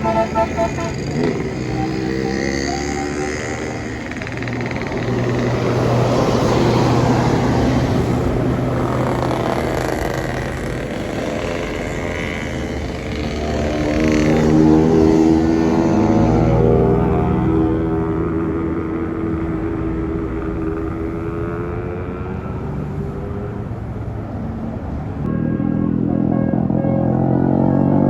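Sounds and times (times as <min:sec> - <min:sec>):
buses driving past: 0:00.0 - 0:28.0.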